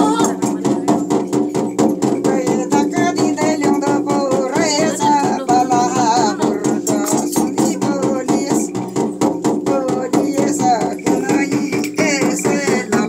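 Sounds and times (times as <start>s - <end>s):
person singing: 0.0s - 1.3s, 2.1s - 8.9s, 9.6s - 13.0s
fast rattling beat: 0.0s - 13.0s.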